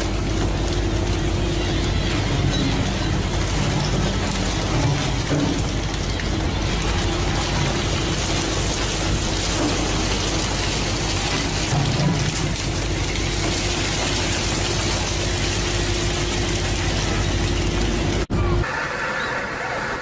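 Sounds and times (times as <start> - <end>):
constant rushing hiss: 0.0 - 18.3
boat engine running: 0.0 - 20.0.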